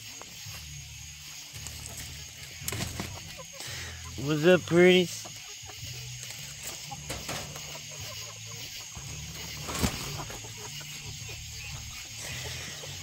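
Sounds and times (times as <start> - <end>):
chickens clucking quietly: 0.0 - 13.0.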